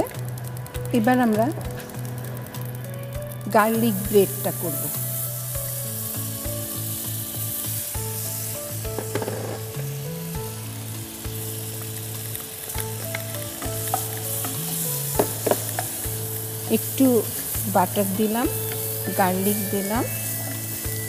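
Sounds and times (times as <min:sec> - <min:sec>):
butter sizzling in frying pan: 0:00.0 - 0:21.0
soft background music: 0:00.0 - 0:21.0.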